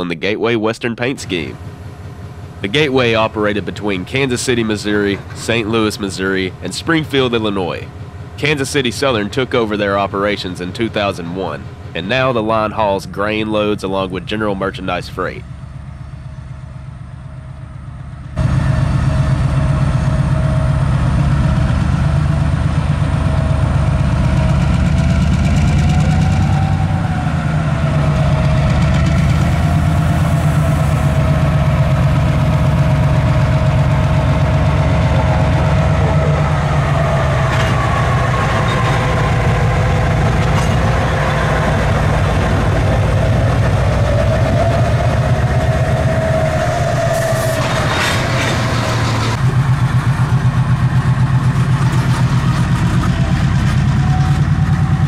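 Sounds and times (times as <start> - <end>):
locomotive diesel engine rumble: 0.0 - 55.0
wavering whine: 1.3 - 55.0.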